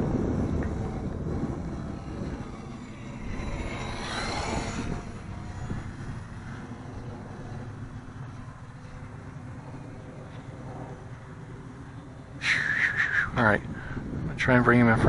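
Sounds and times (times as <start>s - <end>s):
model plane motor whining: 0.0s - 12.7s
wind rumbling on microphone: 0.0s - 15.0s.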